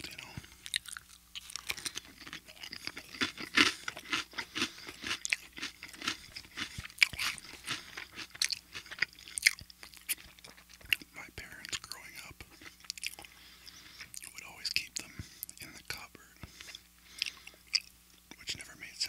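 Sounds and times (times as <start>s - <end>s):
chewing crisp toast: 0.0s - 18.5s.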